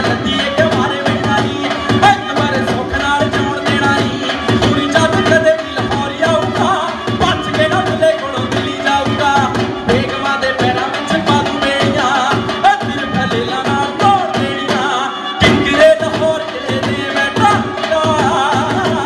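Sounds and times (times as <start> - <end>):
fast driving drum beat: 0.0 - 19.0
person singing: 0.0 - 19.0.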